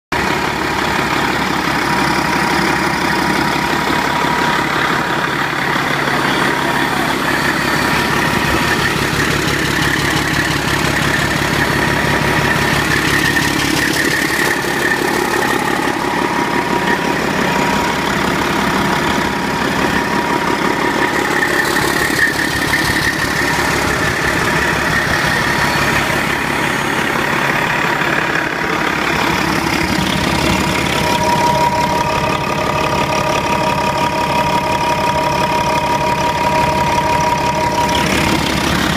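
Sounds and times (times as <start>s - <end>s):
diesel engine idling: 0.1s - 38.9s.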